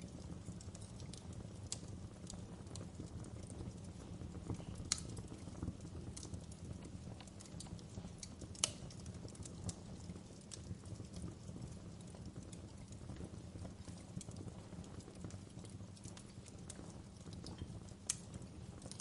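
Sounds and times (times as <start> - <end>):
pops and snaps of burning wood: 0.0 - 19.0
wood fire crackling: 0.0 - 19.0.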